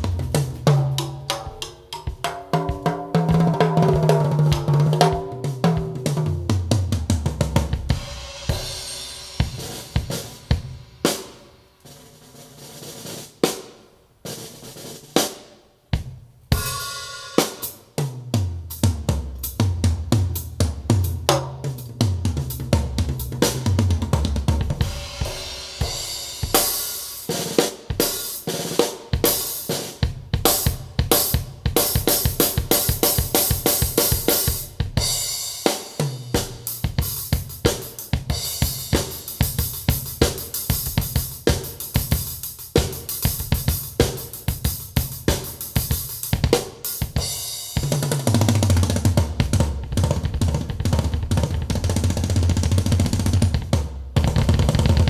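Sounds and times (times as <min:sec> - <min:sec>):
drum kit music through woofer: 0:00.0 - 0:55.0.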